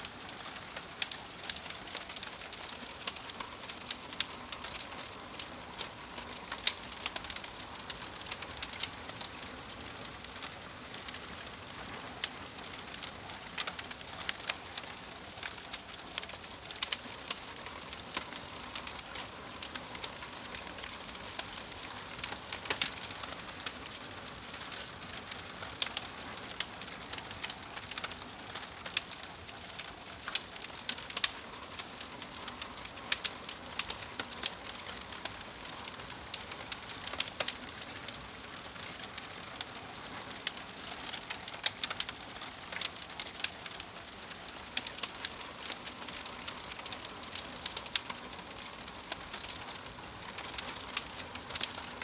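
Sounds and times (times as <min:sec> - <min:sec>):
fire crackling: 0:00.0 - 0:52.0.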